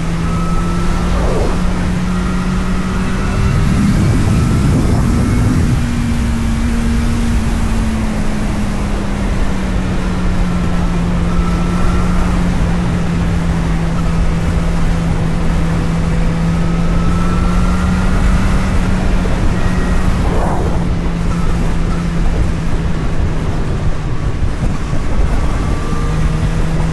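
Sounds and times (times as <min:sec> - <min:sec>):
road and wind noise: 0:00.0 - 0:26.9.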